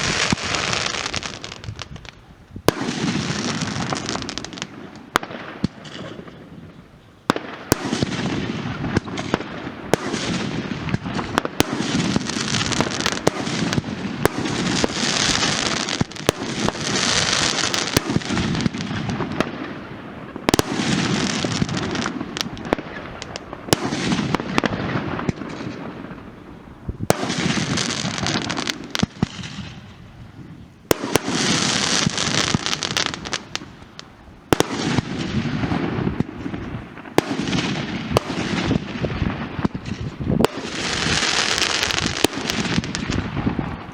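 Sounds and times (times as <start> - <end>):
firework bangs: 0.0 - 43.9
fireworks crackling hiss: 0.0 - 43.9.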